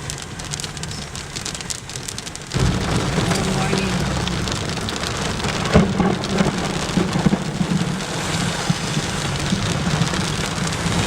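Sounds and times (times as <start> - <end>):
heavy rain pouring: 0.0 - 11.0
low rumble: 0.0 - 11.0
sharp raindrop hits: 0.0 - 11.0.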